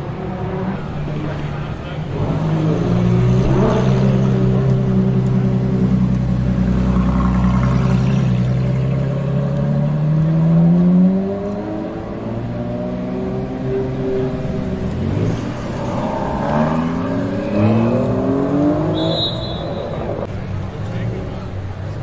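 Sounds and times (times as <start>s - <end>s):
car engine pulling away: 0.0s - 19.4s.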